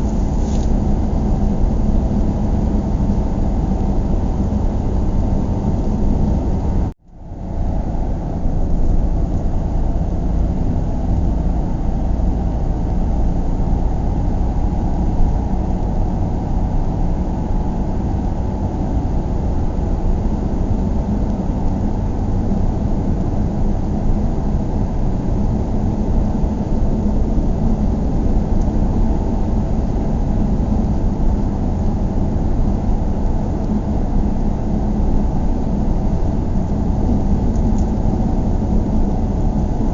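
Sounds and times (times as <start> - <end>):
car driving road and engine noise: 0.0 - 39.9.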